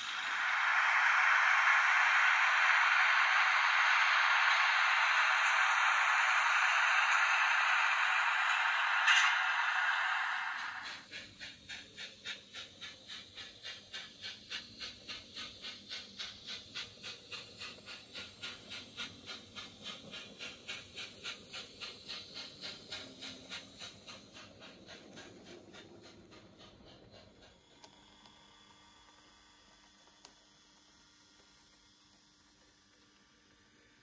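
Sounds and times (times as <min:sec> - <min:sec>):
model train wheels clicking: 0:00.0 - 0:34.0.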